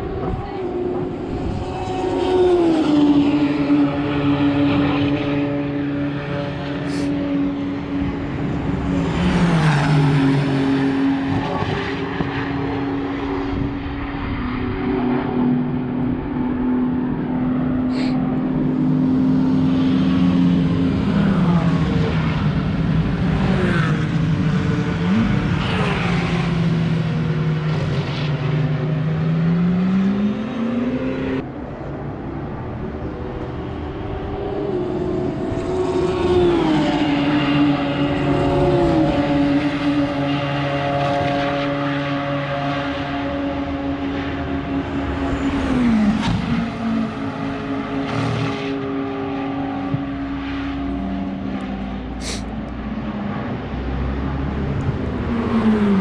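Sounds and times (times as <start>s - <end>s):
car engines passing: 0.0s - 56.0s
steady engine hum: 0.0s - 56.0s.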